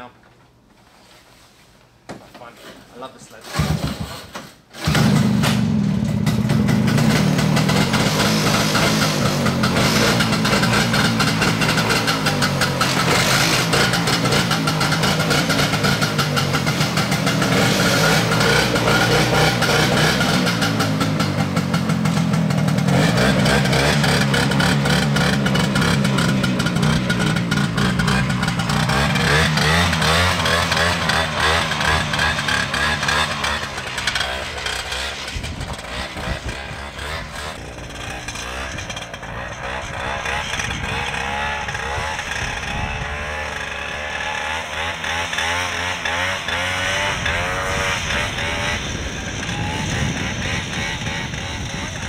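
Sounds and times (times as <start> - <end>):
two-stroke snowmobile engine: 3.2 - 52.0.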